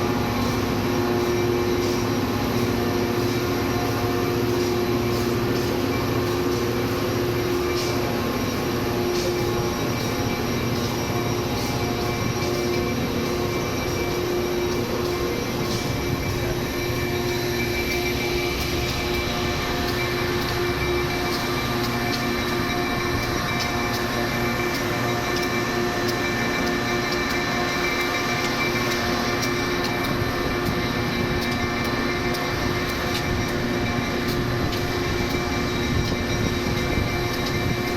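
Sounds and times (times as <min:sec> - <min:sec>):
constant hum: 0:00.0 - 0:37.9
train rolling rumble: 0:00.0 - 0:37.9.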